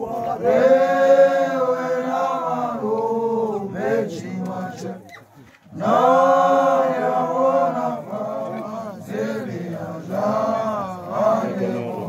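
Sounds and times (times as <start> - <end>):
group of voices chanting: 0.0 - 5.1, 5.7 - 12.0.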